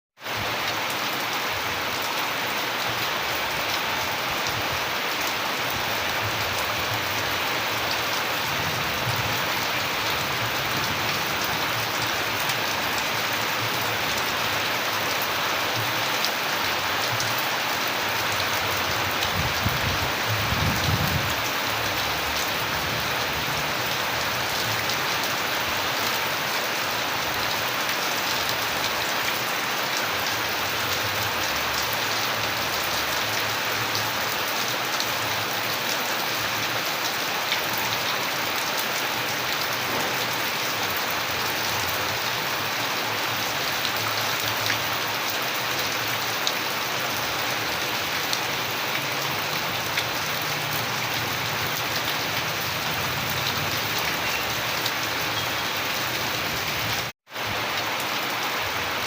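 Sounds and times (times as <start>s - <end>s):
steady rain: 0.2s - 59.0s.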